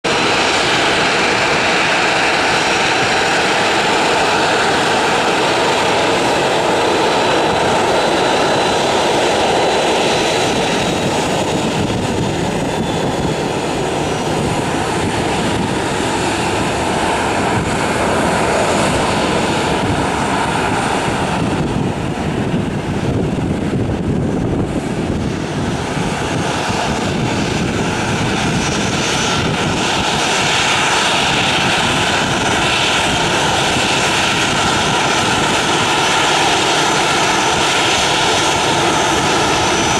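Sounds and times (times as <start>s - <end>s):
jet engines rumbling and hissing: 0.0s - 39.9s.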